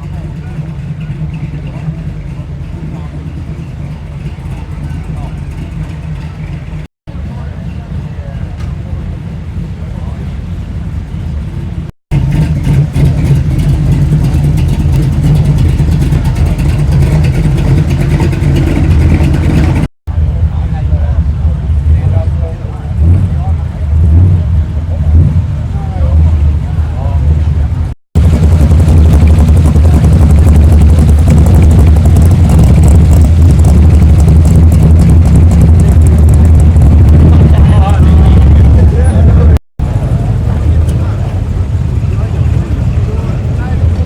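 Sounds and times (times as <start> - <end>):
car engine rumbling: 0.0 - 44.0.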